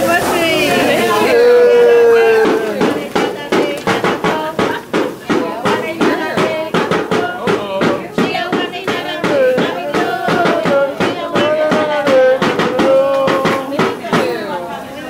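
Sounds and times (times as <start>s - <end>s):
rhythmic clapping: 0.0s - 15.0s
person singing long notes: 1.2s - 15.0s.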